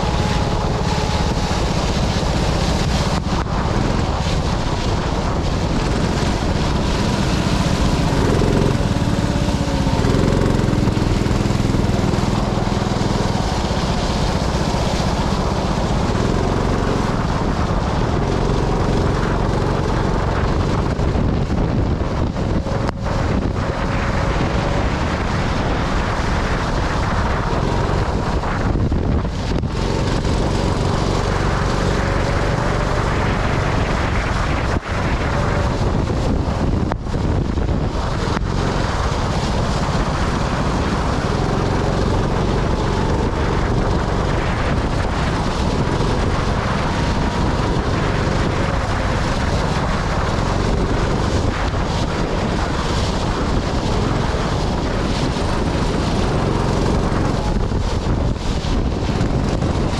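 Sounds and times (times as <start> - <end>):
kart engine running: 0.0 - 59.9
wind noise on microphone: 0.0 - 59.9.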